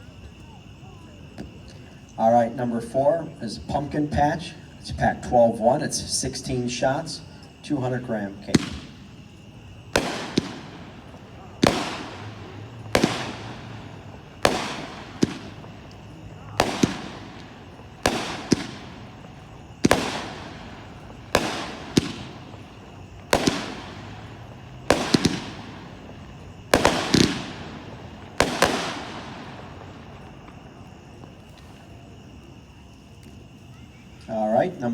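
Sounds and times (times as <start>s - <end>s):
firework bangs: 3.1s - 32.2s.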